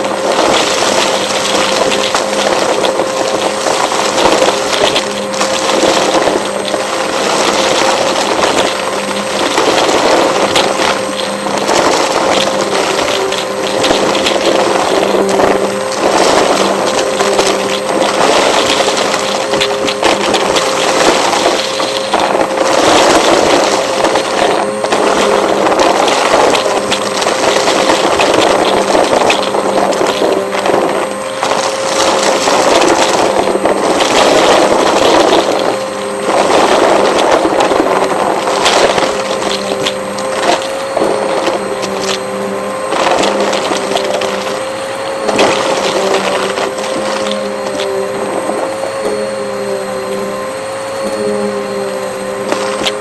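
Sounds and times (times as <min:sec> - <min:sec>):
debris crackling and clicking: 0:00.0 - 0:53.0
vacuum cleaner motor whine: 0:00.0 - 0:53.0.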